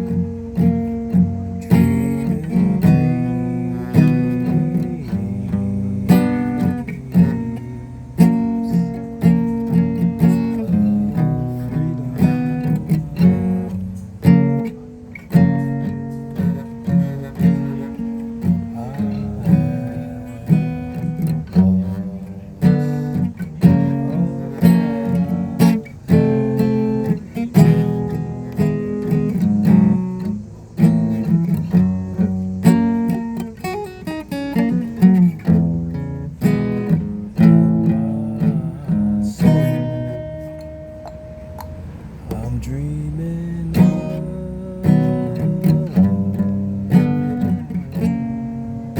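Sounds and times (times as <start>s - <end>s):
acoustic guitar strumming: 0.0s - 48.9s.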